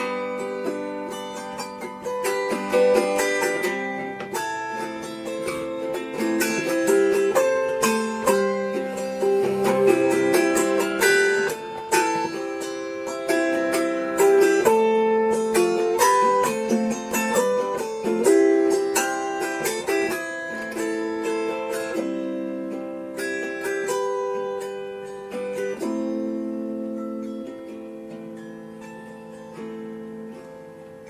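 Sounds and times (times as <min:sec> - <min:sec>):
plucked string instrumental music: 0:00.0 - 0:31.0.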